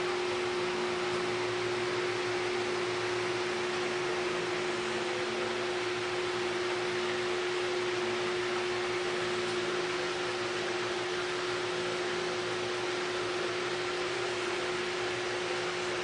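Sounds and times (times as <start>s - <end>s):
constant mid-pitched hum: 0.0s - 16.0s.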